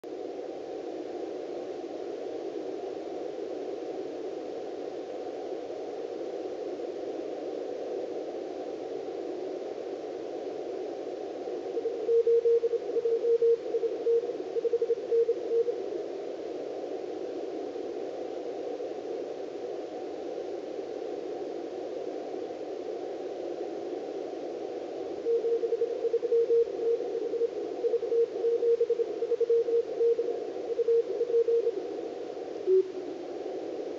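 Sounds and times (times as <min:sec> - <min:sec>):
radio band noise hiss: 0:00.1 - 0:33.9.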